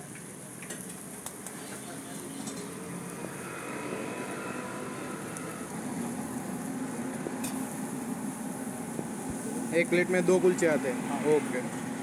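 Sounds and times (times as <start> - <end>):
bread sizzling on a griddle: 0.0 - 12.0
engine hum: 1.0 - 12.0
passing traffic: 1.2 - 12.0.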